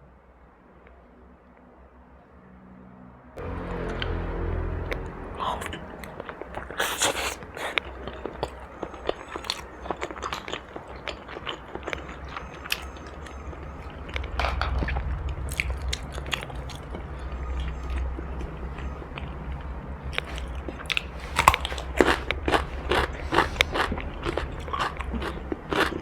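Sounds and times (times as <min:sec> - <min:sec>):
chewing crunchy food: 0:04.9 - 0:26.0.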